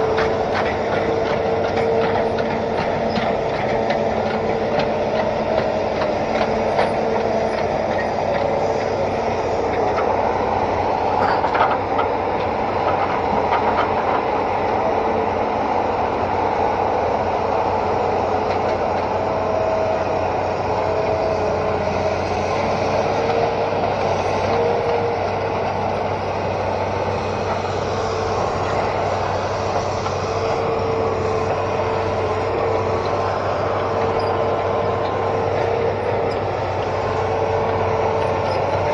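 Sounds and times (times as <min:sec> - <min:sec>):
excavator engine hum: 0:00.0 - 0:38.9
tracks rattling and clanking: 0:00.0 - 0:38.9.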